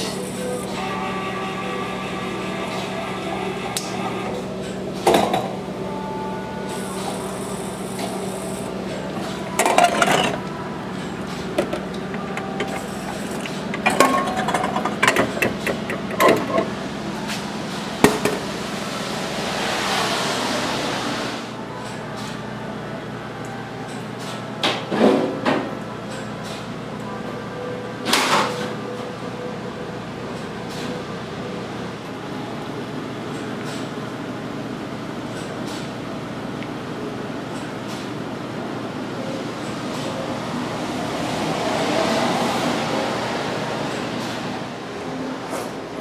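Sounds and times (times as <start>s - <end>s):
vending machine humming: 0.0s - 46.0s.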